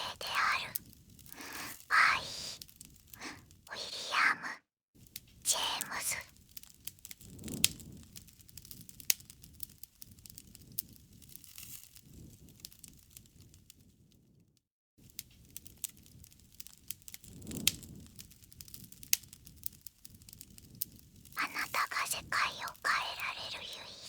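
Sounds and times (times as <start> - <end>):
campfire crackling: 0.0 - 14.0, 15.0 - 24.0.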